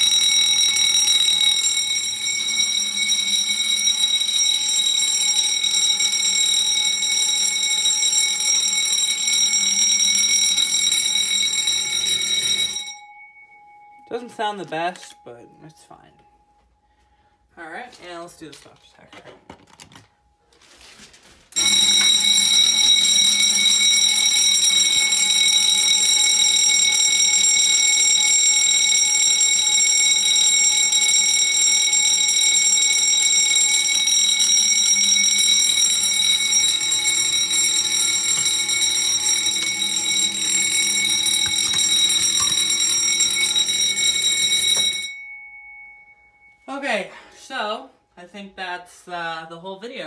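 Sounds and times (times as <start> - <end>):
fire alarm bell ringing: 0.0 - 17.4, 21.6 - 47.4.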